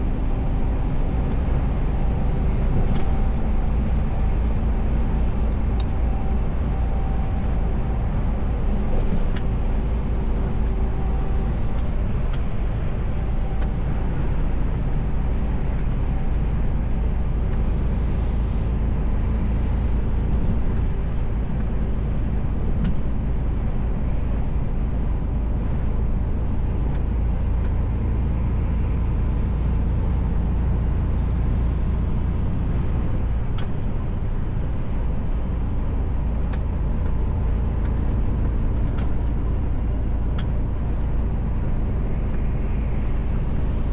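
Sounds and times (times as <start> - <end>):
road noise: 0.0 - 43.9
truck engine drone: 0.0 - 43.9.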